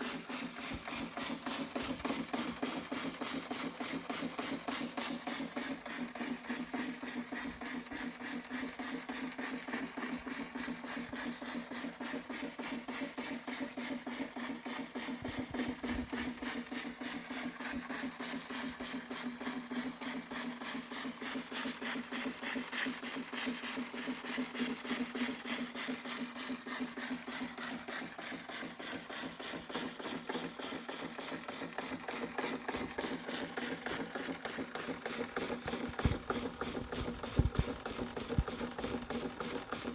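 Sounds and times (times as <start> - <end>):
toy steam engine chatter: 0.0 - 39.9.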